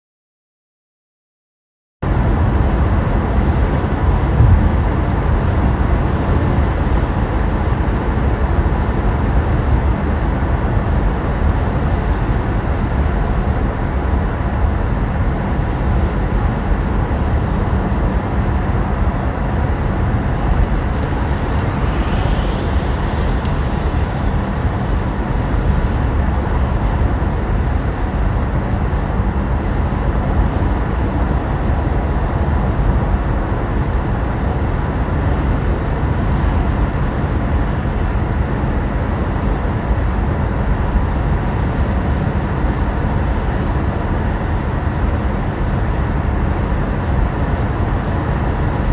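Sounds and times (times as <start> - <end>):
wind rush: 2.0 - 48.9.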